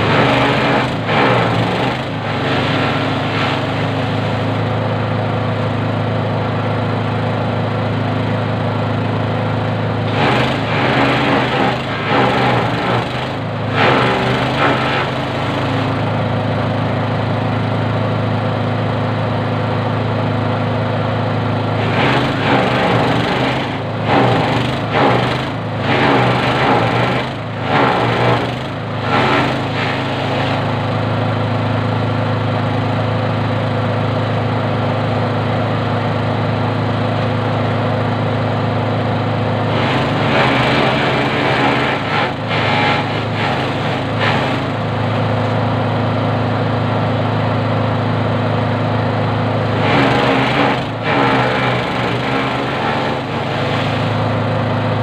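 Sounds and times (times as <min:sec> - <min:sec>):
grass chopper machine humming: 0:00.0 - 0:55.0.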